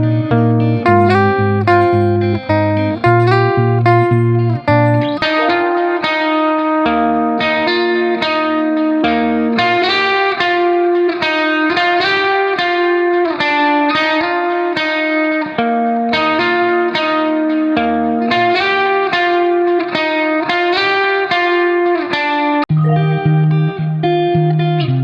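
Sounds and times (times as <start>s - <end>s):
plucked guitar melody: 0.0s - 22.1s, 22.7s - 25.0s.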